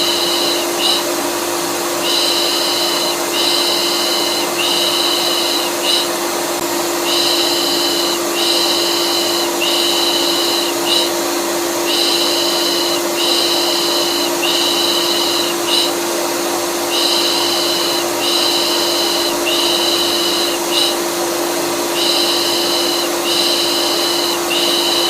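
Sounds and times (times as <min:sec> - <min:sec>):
rhythmic shushing: 0:00.0 - 0:01.2, 0:01.9 - 0:06.2, 0:07.0 - 0:11.2, 0:11.8 - 0:16.0, 0:16.8 - 0:21.0, 0:21.9 - 0:25.0
vacuum cleaner humming: 0:00.0 - 0:25.0.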